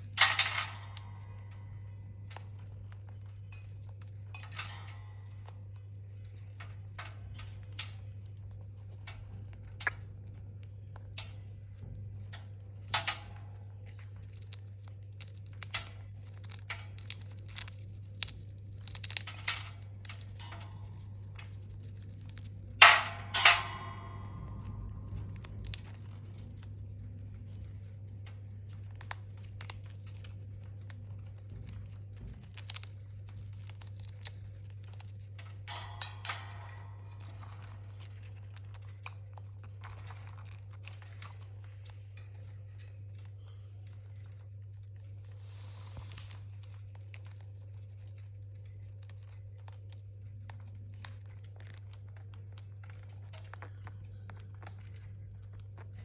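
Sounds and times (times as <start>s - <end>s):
parrot chewing and crunching: 0.0s - 56.0s
steady low hum: 0.0s - 56.0s.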